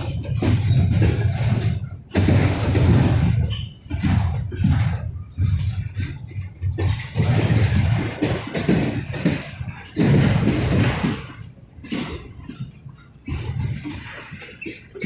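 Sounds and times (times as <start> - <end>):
freight train rumbling: 0.0 - 15.0
metallic clanks and bangs: 0.0 - 15.0.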